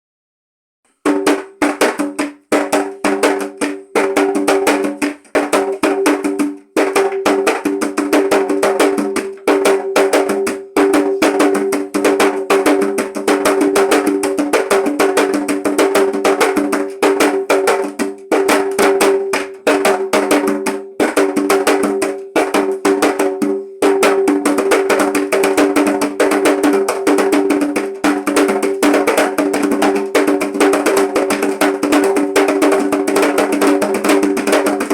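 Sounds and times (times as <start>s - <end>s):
hand drums played fast: 1.0s - 34.9s.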